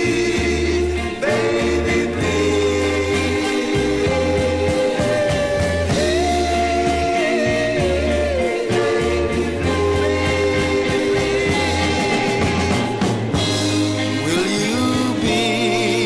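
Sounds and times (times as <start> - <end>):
soul ballad record: 0.0 - 16.0.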